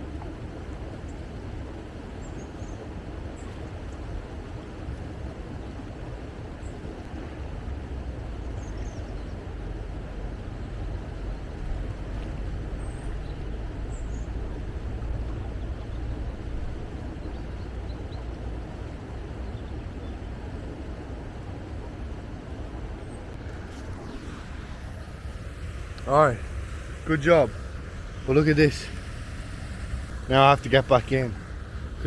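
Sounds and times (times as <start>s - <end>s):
river rushing: 0.0s - 32.0s.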